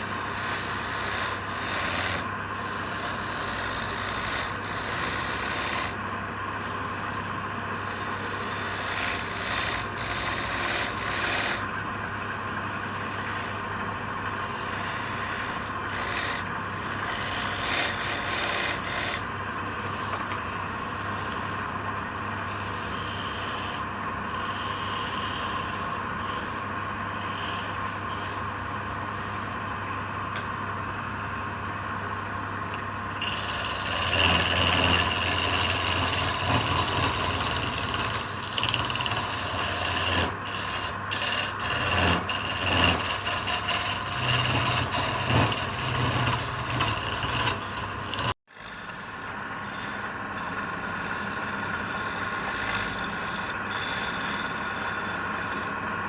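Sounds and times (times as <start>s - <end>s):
rubbing and scraping wood: 0.0s - 6.0s, 6.6s - 13.6s, 14.2s - 19.3s, 22.5s - 29.6s, 33.2s - 55.8s
power tool motor hum: 0.0s - 11.8s, 12.6s - 13.6s, 14.2s - 19.3s, 22.5s - 29.6s, 33.1s - 55.8s.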